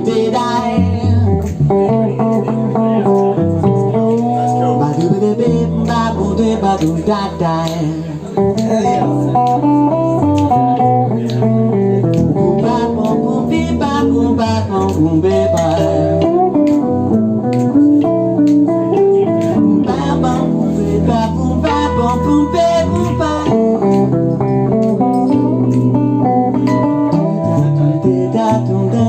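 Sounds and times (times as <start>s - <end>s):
electric bass: 0.0s - 29.0s
guitar: 0.0s - 29.0s.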